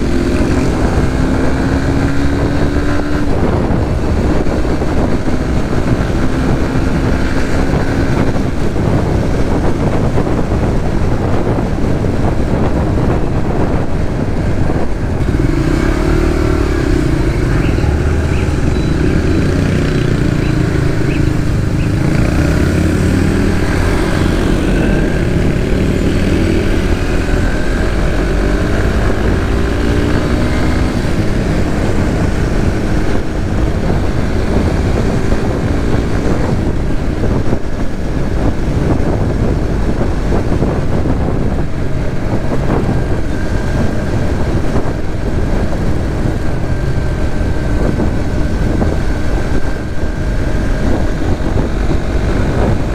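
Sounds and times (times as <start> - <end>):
motorcycle engine accelerating: 0.0 - 52.9
road noise: 0.0 - 52.9
wind noise: 0.0 - 52.9.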